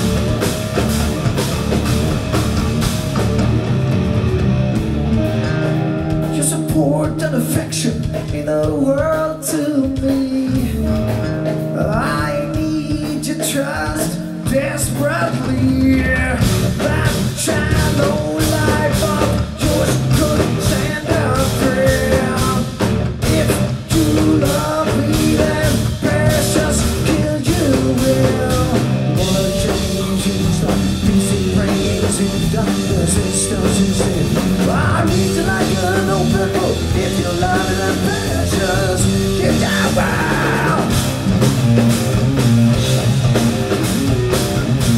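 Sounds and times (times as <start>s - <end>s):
bass guitar: 0.0s - 44.9s
drum kit: 0.0s - 44.9s
electric guitars: 0.0s - 44.9s.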